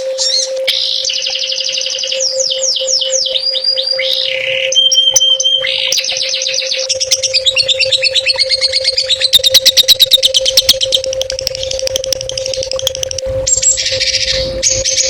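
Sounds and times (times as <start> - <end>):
songbird singing: 0.0 - 15.0
steady hum: 0.0 - 15.0.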